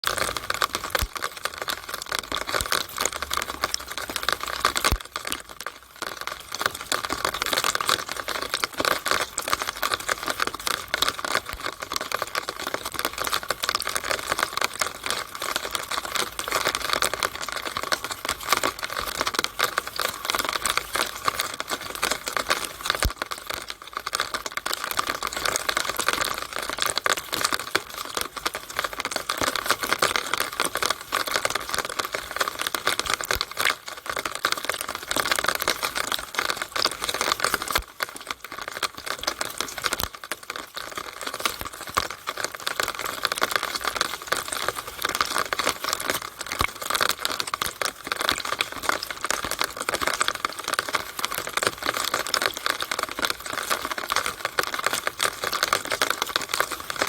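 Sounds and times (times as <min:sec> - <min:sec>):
rainwater dripping from downspout: 0:00.0 - 0:57.0.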